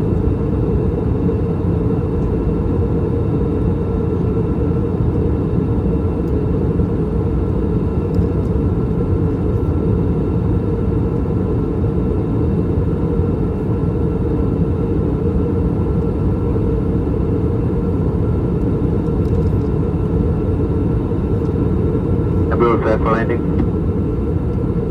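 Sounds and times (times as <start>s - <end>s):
airplane cabin engine rumble: 0.0s - 24.9s.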